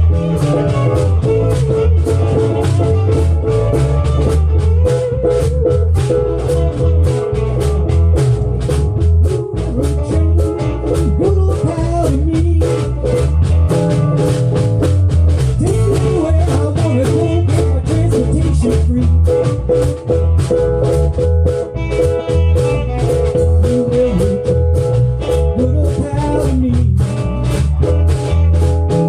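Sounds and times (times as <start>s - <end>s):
bass: 0.0s - 29.0s
guitar lead melody: 0.0s - 29.0s
steady drum beat: 0.0s - 29.0s.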